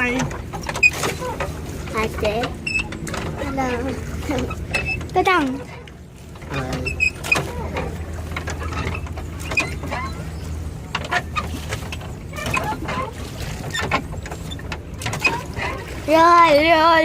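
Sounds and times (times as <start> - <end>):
boat gear creaking and clicking: 0.0 - 17.0
low steady hum: 0.0 - 17.0.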